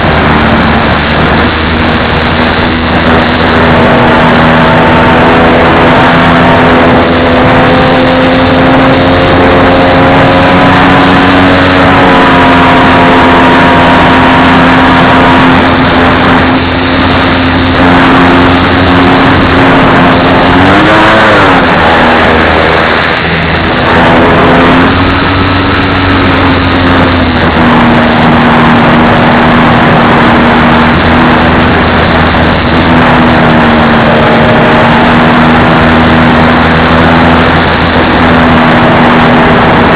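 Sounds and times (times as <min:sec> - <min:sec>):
model plane motor droning: 0:00.0 - 0:39.9
noisy rush: 0:00.0 - 0:39.9.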